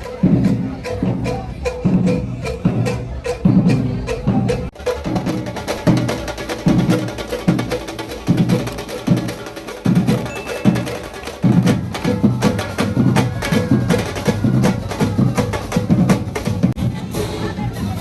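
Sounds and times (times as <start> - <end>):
percussion band drumming: 0.0 - 16.8.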